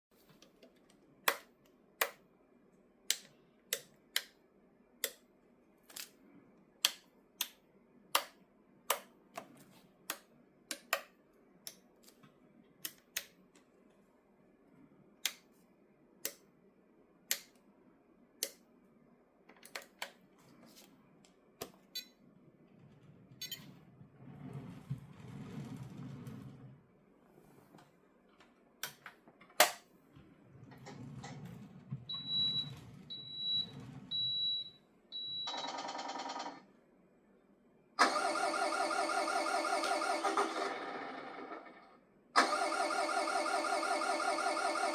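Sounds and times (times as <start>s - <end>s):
faint low hum: 0.2s - 38.0s.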